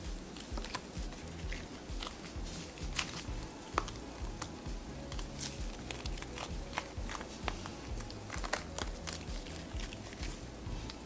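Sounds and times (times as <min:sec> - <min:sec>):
slime crackling and popping: 0:00.3 - 0:11.0.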